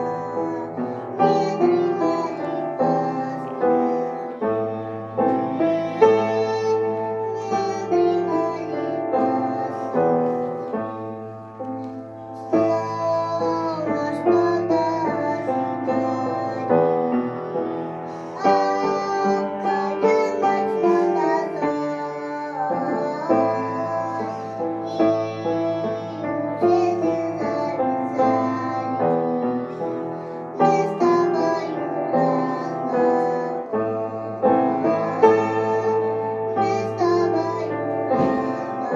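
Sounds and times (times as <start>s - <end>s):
keyboard accompaniment: 0.0s - 38.9s.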